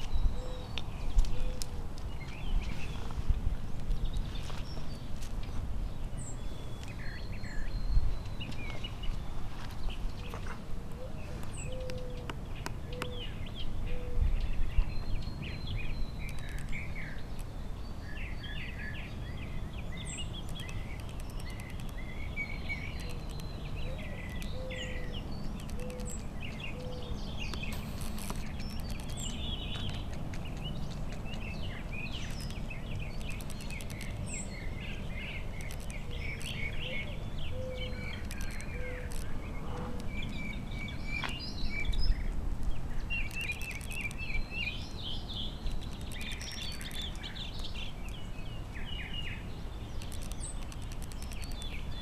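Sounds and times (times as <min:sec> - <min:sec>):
birds chirping and trilling: 0:00.0 - 0:52.0.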